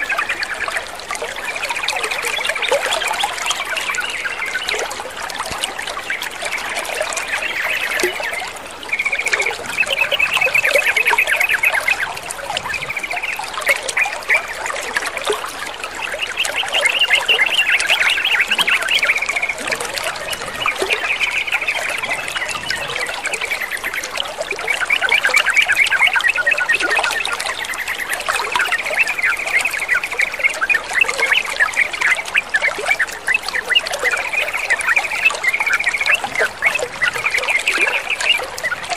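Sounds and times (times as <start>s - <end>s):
running water trickling: 0.0s - 38.9s
birds chattering: 5.8s - 14.6s, 16.0s - 38.9s.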